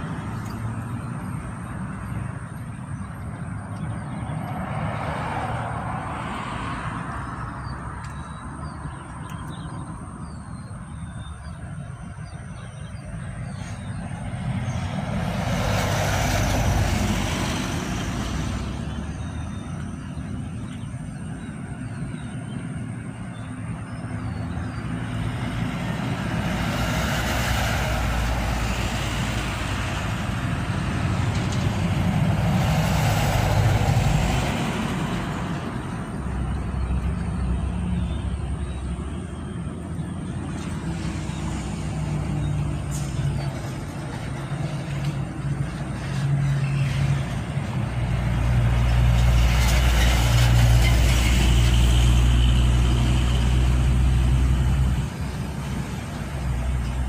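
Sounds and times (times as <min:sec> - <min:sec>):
low traffic rumble: 0:00.0 - 0:57.0
vehicles passing: 0:00.0 - 0:57.0.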